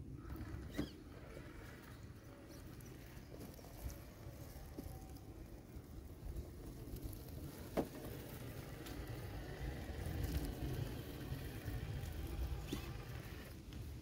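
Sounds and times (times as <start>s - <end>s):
toy car motor rumble: 0.2s - 14.0s.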